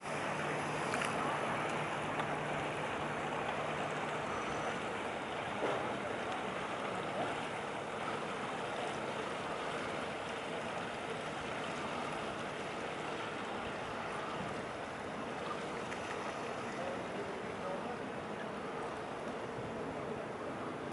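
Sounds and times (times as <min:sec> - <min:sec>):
water: 0:00.0 - 0:20.9.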